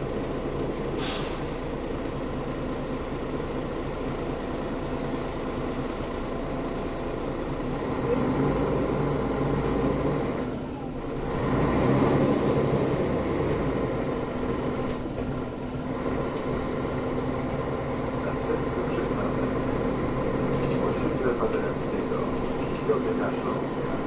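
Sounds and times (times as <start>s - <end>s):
bus diesel engine: 0.0s - 24.0s.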